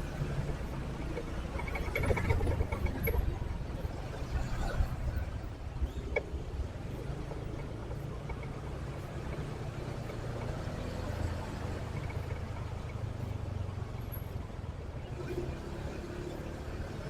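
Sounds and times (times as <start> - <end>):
road and traffic noise: 0.0 - 17.0.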